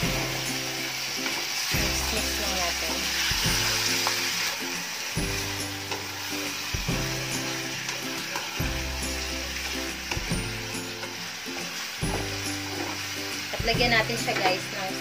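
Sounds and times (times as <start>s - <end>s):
background music: 0.0s - 15.0s
chicken sizzling in oil: 0.0s - 15.0s
spatula stirring: 1.1s - 13.6s.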